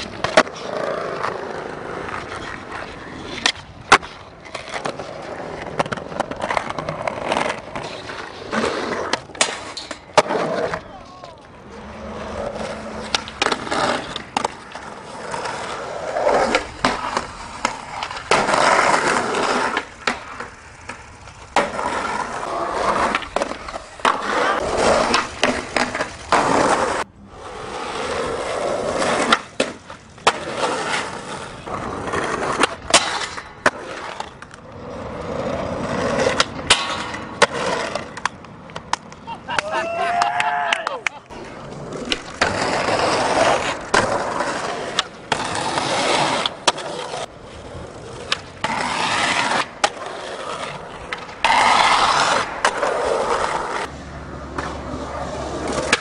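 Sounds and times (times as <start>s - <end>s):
skateboard popping and landing: 0.0s - 56.0s
skateboard wheels rolling on concrete: 0.0s - 56.0s.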